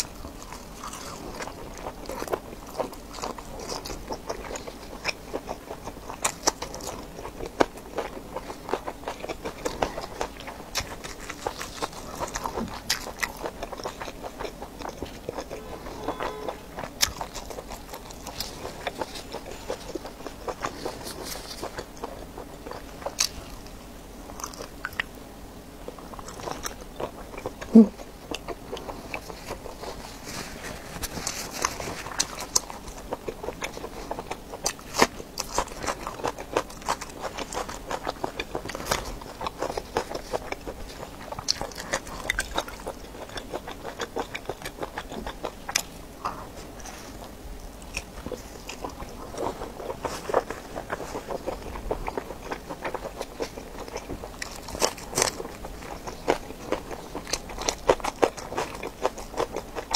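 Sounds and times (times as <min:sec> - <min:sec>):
crunching raw onion: 0:00.0 - 0:25.2, 0:25.8 - 0:59.9
chewing sausage: 0:00.0 - 0:59.9.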